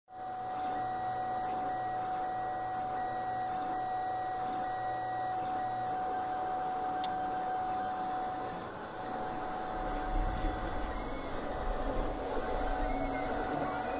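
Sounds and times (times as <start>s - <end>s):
steady high hum: 0.1s - 13.9s
stepper motor whines: 0.2s - 13.9s.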